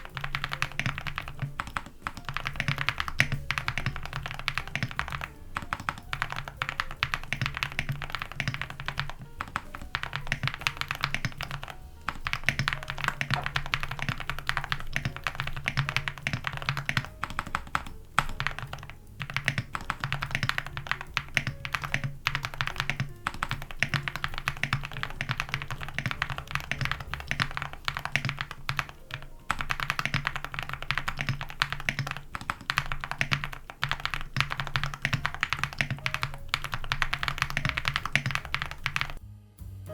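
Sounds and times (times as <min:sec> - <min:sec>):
fast mechanical keyboard typing: 0:00.0 - 0:39.2
background music: 0:00.0 - 0:39.9.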